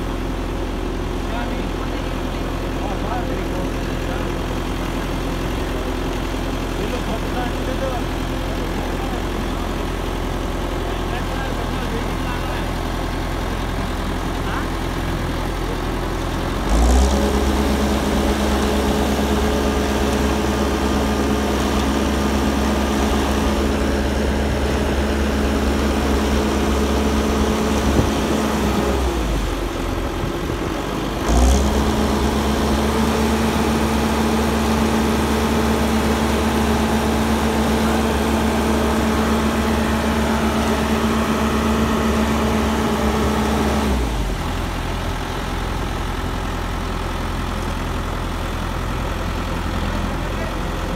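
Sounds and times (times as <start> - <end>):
concrete mixer engine running: 0.0 - 50.9.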